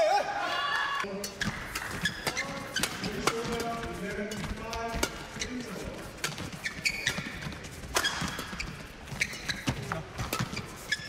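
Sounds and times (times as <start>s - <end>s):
shoes squeaking on court: 1.1s - 11.0s
racket hitting shuttlecock: 1.2s - 11.0s.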